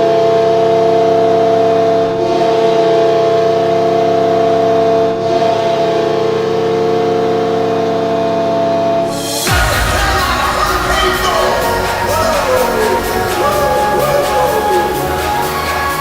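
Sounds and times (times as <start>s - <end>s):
arena goal horn blast: 0.0s - 16.0s.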